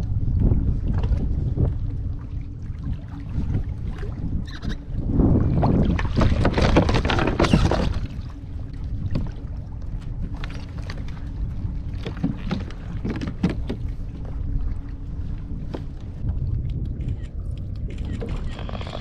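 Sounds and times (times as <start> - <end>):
water lapping against hull: 0.0 - 19.0
water splashing beside kayak: 0.0 - 19.0
wind on microphone: 0.0 - 19.0.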